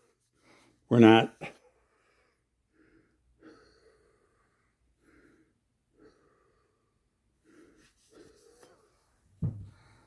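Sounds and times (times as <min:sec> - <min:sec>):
faint soft breathing: 0:00.0 - 0:00.9, 0:01.5 - 0:10.0.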